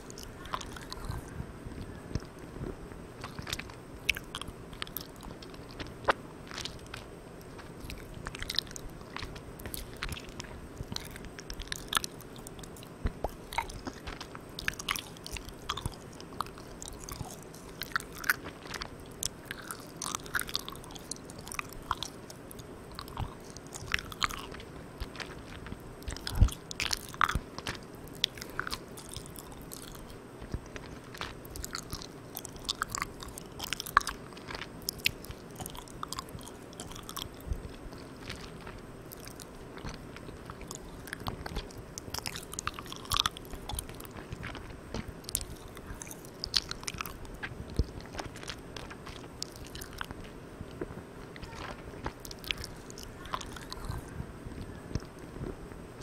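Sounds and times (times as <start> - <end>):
wet chewing clicks and smacks: 0.0 - 2.6, 3.2 - 55.4
recorder hiss: 0.0 - 56.0.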